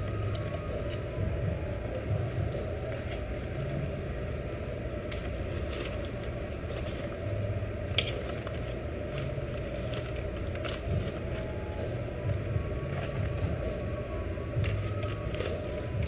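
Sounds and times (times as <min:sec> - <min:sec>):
restaurant dining room rumble: 0:00.0 - 0:16.0.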